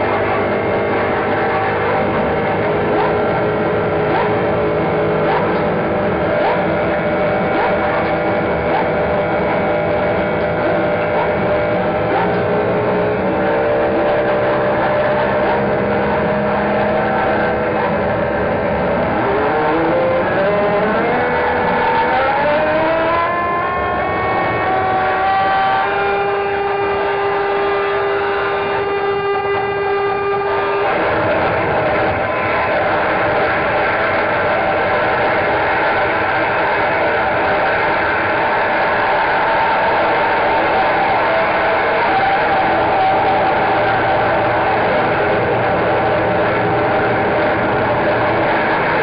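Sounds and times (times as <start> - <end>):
layered noise music drones: 0.0 - 49.0.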